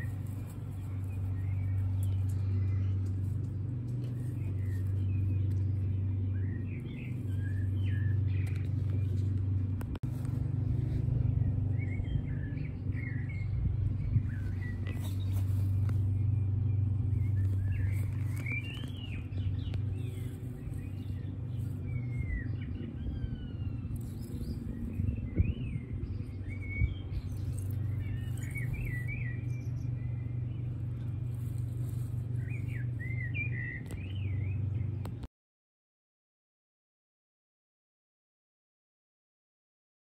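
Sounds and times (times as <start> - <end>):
small birds chirping and singing: 0.0 - 35.3
steady low rumble: 0.0 - 35.3.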